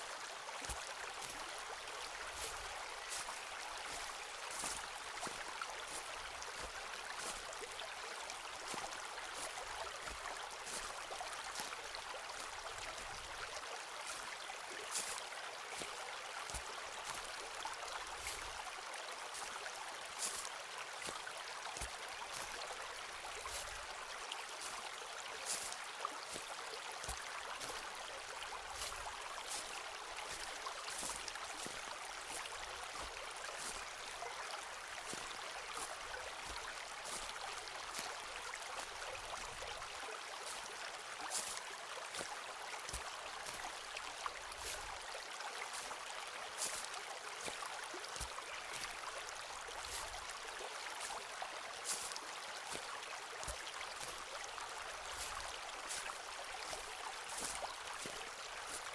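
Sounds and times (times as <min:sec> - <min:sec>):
footsteps crunching on forest path: 0:00.2 - 0:58.9.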